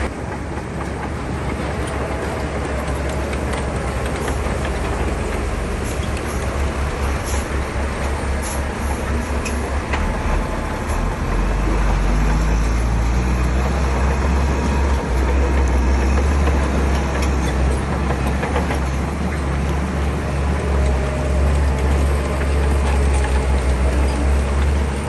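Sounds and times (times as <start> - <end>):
bulldozer diesel engine rumbling: 0.0 - 25.0.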